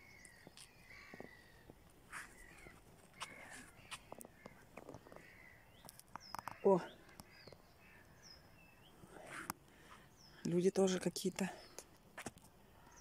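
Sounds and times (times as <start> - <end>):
distant bird calls: 0.0 - 13.0.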